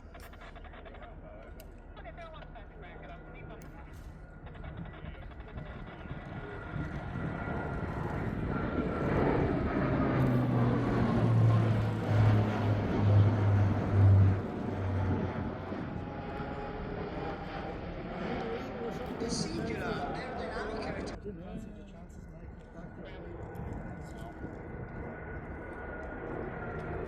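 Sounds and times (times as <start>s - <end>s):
aircraft engine noise: 0.0s - 27.0s.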